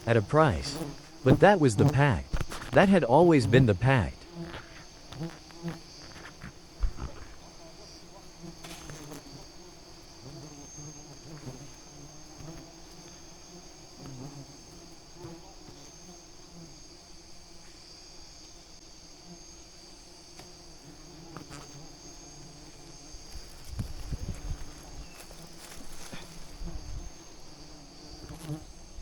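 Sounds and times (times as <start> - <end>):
swarm of bees buzzing: 0.0 - 29.0
high-pitched insect trill: 2.2 - 29.0.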